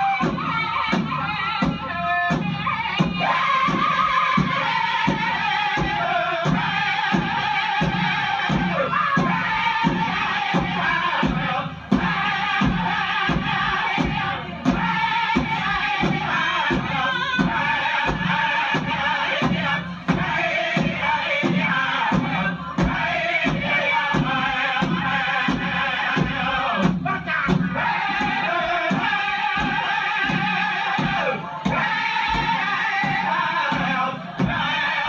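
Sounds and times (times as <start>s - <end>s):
drumbeat: 0.0s - 35.0s
group chanting vocals: 0.0s - 35.0s.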